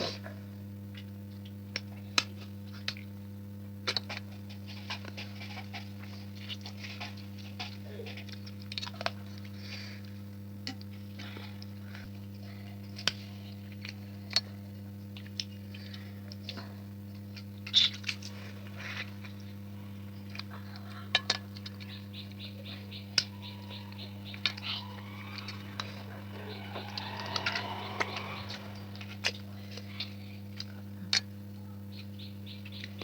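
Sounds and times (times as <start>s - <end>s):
steady low hum: 0.2s - 31.5s.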